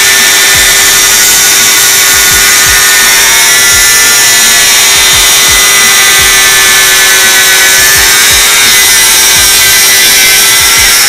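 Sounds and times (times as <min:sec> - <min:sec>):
angle grinder cutting steel: 0:00.0 - 0:11.0.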